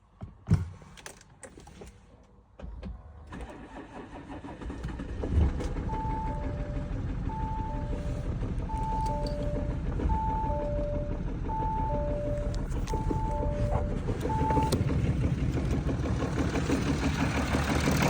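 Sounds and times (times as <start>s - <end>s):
diesel engine starting and idling: 3.0s - 18.0s.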